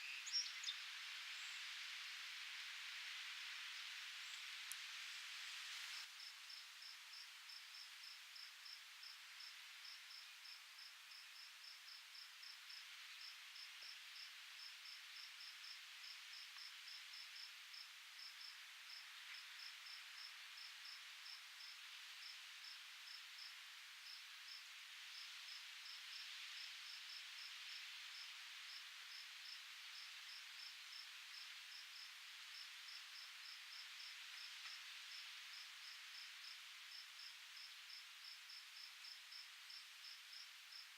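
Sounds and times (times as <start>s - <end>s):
soft breeze hiss: 0.0s - 40.9s
insect chirping: 5.8s - 40.9s.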